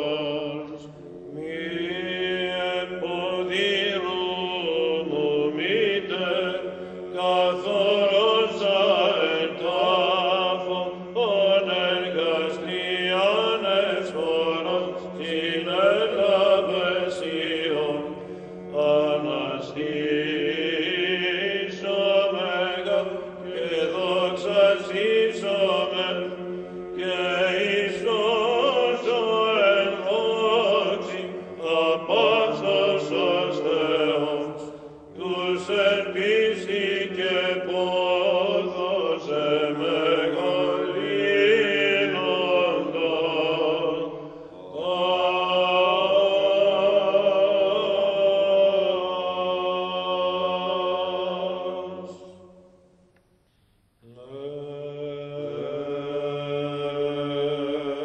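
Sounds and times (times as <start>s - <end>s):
male choir chanting over a drone: 0.0s - 52.6s, 54.0s - 58.0s.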